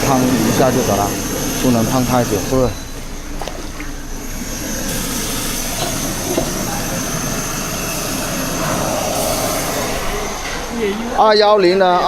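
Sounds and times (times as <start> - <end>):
kitchen rushing roar: 0.0 - 12.0.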